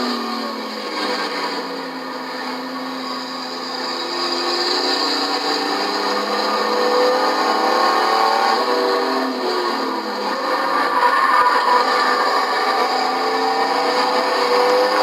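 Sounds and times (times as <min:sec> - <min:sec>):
race truck engines accelerating: 0:00.0 - 0:15.0.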